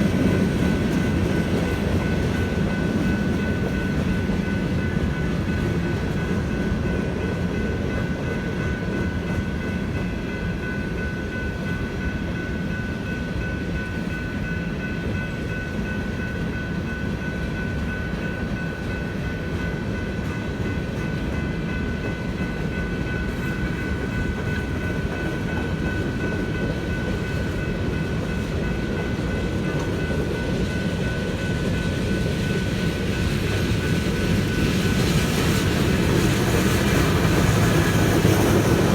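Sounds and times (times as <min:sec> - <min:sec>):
crossing bell ringing: 0:00.0 - 0:38.9
train cars rumbling past: 0:00.0 - 0:38.9.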